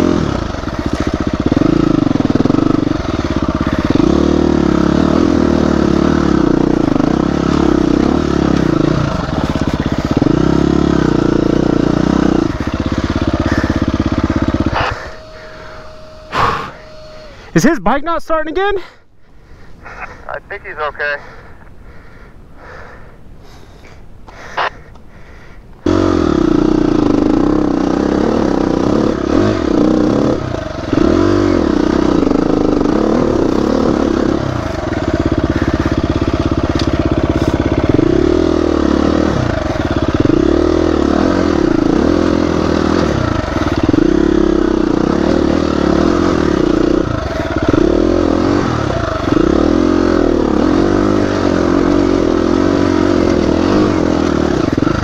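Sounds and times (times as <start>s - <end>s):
dirt bike engine revving: 0.0s - 18.7s, 25.8s - 55.0s.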